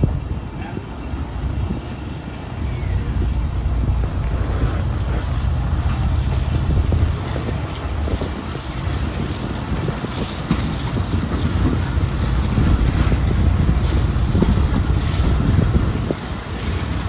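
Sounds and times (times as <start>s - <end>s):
train wheels rumbling on rail: 0.0s - 17.0s
wind on microphone: 0.0s - 17.0s.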